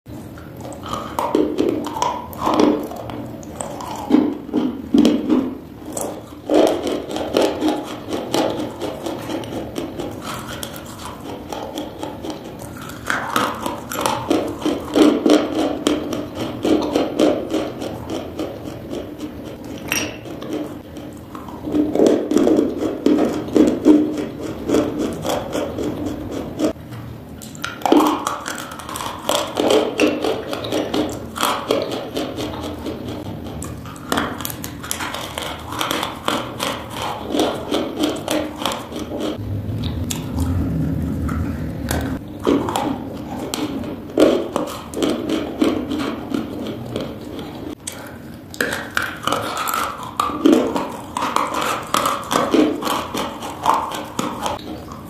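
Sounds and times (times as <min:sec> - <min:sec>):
crunching chalk in mouth: 0:00.1 - 0:26.8, 0:27.4 - 0:55.0.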